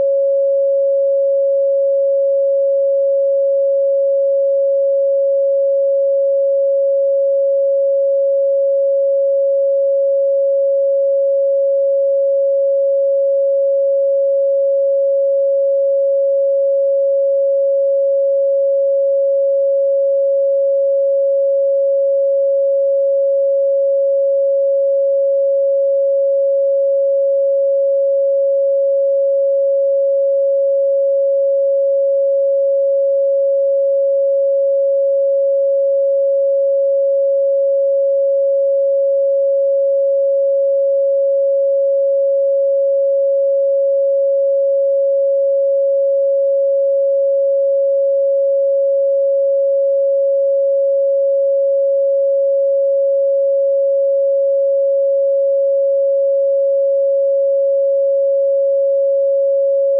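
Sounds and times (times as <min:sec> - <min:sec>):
steady sine tone: 0:00.0 - 0:59.9.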